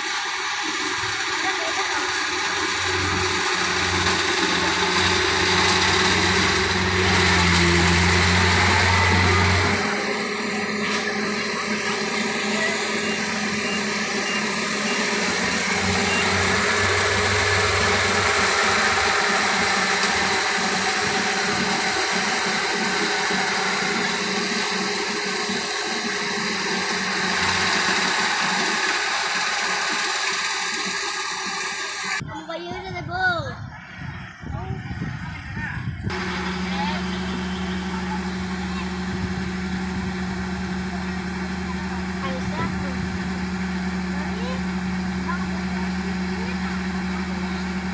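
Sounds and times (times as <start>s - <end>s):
combine harvester engine running: 0.0s - 32.2s, 34.0s - 47.9s.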